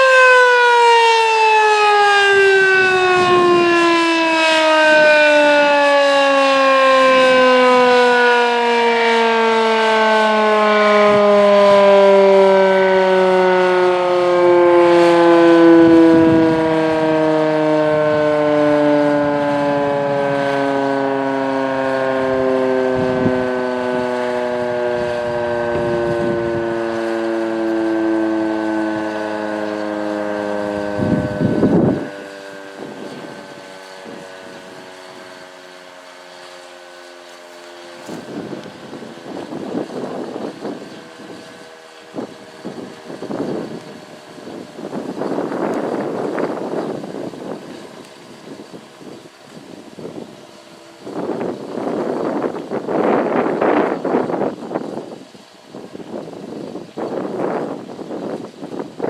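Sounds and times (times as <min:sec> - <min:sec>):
warning siren winding down: 0:00.0 - 0:59.0.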